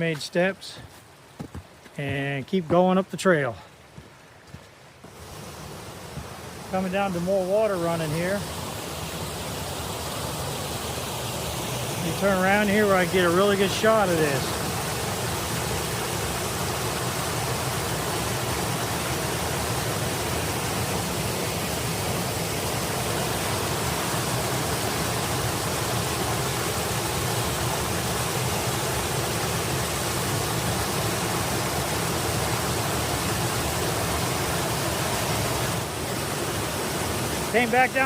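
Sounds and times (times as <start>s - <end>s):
stream splashing over rocks: 0.0s - 38.0s.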